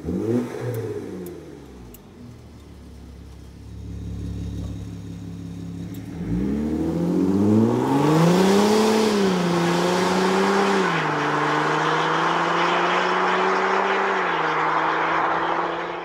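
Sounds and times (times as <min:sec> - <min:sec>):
diesel car engine idling and accelerating: 0:00.0 - 0:16.0.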